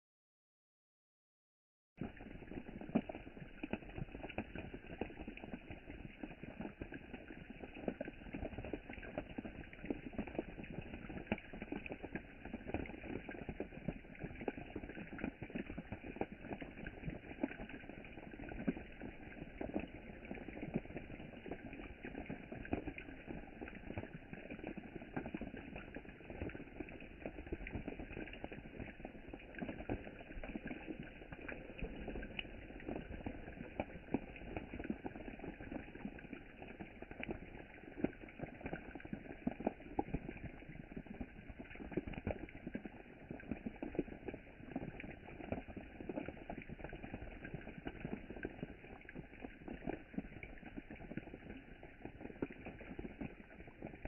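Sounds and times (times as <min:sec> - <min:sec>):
rain falling on a lake: 0:02.0 - 0:54.0.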